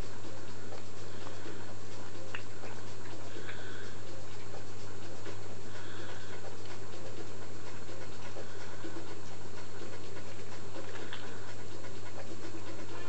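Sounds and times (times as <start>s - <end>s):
steady low hum: 0.0s - 13.0s
cat chewing wet food: 0.5s - 13.0s.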